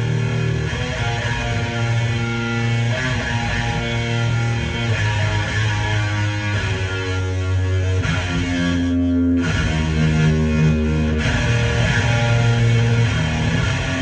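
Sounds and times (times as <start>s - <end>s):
heavily distorted electric guitar: 0.0s - 14.0s.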